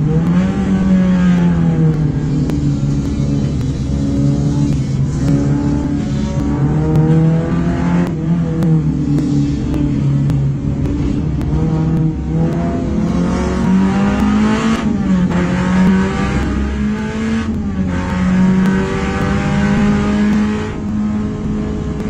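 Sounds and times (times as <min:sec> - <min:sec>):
car engine revving with upshifts: 0:00.0 - 0:22.0.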